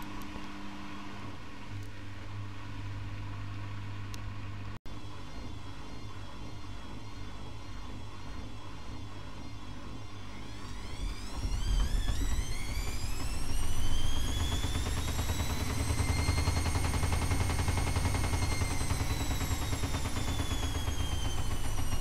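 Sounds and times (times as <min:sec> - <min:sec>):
washing machine spin whine: 0:00.0 - 0:22.0.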